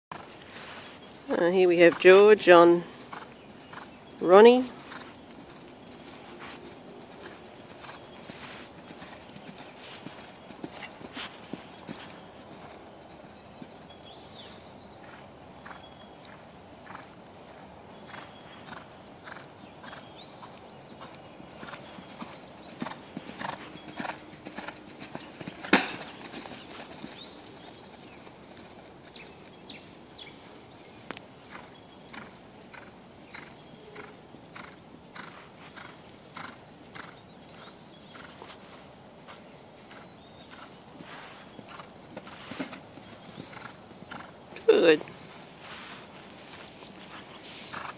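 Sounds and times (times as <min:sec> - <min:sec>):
horse hoofbeats on dirt: 0:00.1 - 0:47.9.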